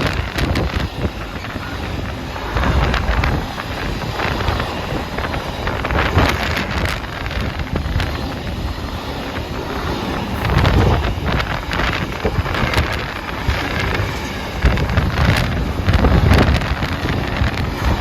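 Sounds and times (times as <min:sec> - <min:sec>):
freight wagons rumbling on rails: 0:00.0 - 0:18.0
wind buffeting microphone: 0:00.0 - 0:18.0.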